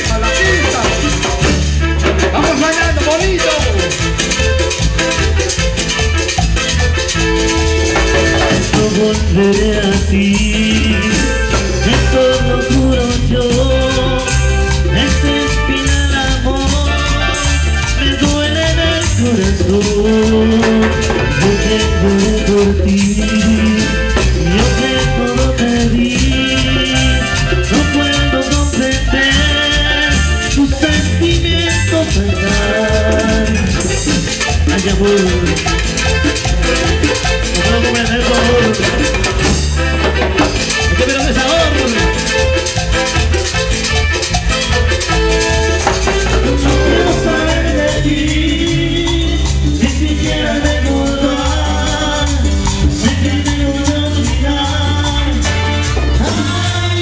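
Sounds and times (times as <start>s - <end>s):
latin dance band playing: 0.0s - 57.0s
percussion beat: 0.0s - 57.0s.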